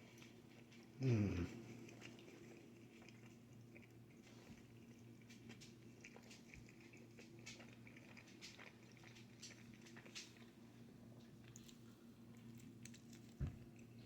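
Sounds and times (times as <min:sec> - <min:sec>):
low steady hum: 0:00.0 - 0:14.0
mouth chewing wet clicks: 0:00.0 - 0:14.0.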